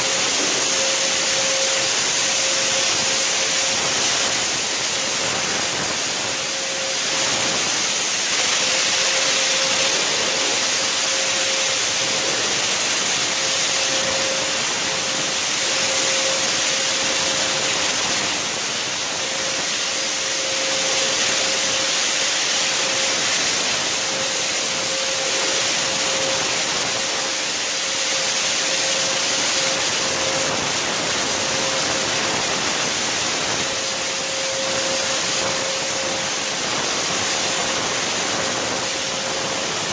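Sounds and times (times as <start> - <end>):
fogger blower hissing and whining: 0.0 - 39.9.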